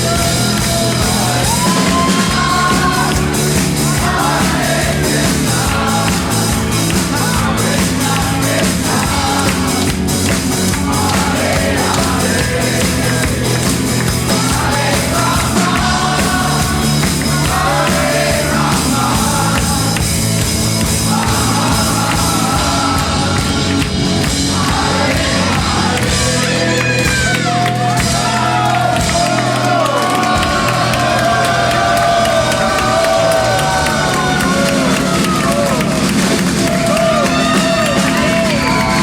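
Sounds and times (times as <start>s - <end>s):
live rock band with singer: 0.0s - 39.0s.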